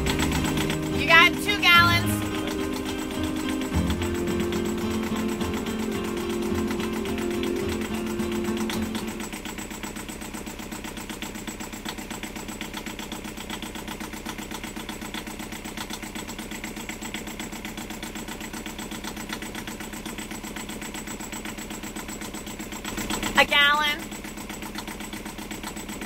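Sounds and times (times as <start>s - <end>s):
diesel engine idling: 0.0s - 26.0s
exhaust spitting water: 0.0s - 26.0s.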